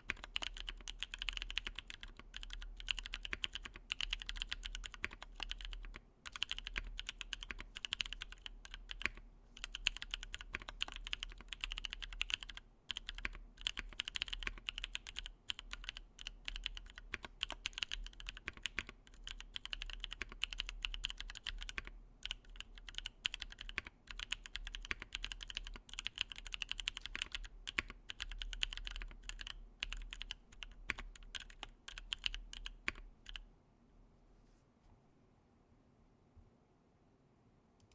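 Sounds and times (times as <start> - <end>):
typing on mechanical keyboard: 0.0 - 33.4.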